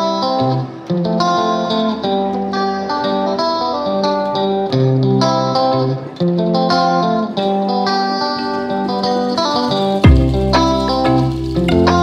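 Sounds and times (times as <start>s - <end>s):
plucked guitar tune: 0.0s - 12.0s.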